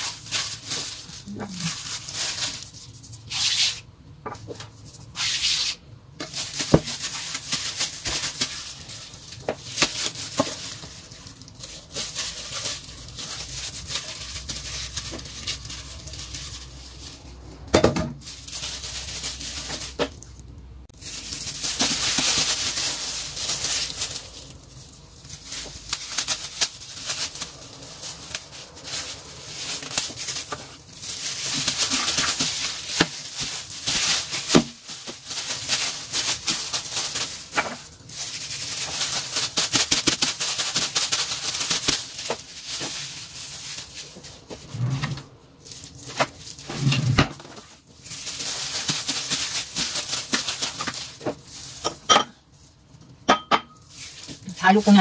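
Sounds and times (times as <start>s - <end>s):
plastic gloves crinkling: 0.0s - 55.0s.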